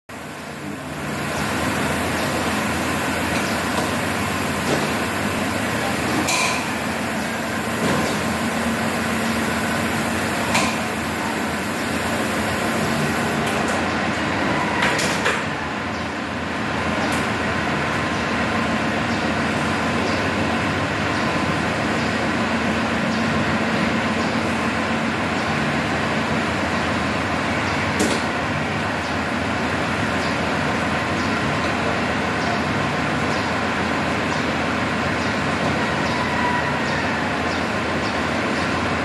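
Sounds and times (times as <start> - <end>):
background hum and hiss: 0.1 - 39.0.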